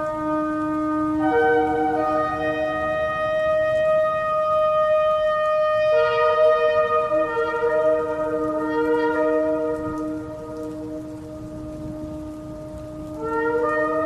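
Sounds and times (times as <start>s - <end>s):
shofars sounding long blasts: 0.0s - 14.0s.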